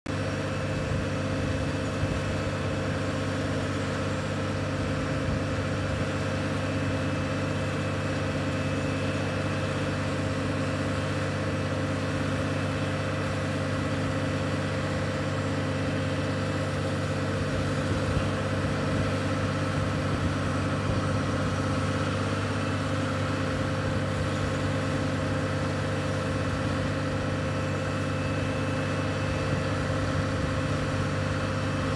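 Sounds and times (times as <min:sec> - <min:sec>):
diesel engine running steadily: 0:00.0 - 0:31.9.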